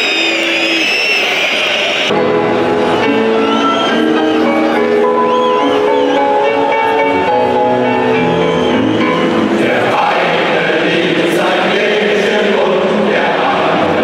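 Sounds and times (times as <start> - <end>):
stadium crowd cheering and chanting: 0.0 - 14.0
music with choir singing: 2.1 - 14.0.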